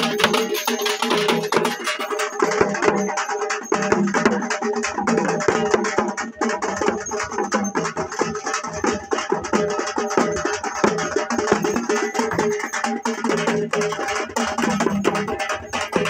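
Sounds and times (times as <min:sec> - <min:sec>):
frame drums beaten with sticks: 0:00.0 - 0:16.0.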